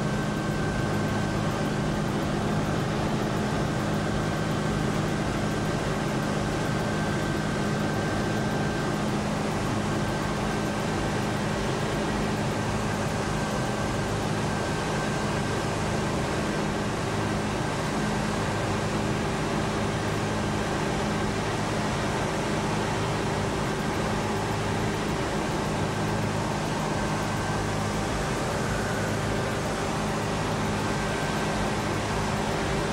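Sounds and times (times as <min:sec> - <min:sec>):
mechanical drone with low hum: 0:00.0 - 0:32.9.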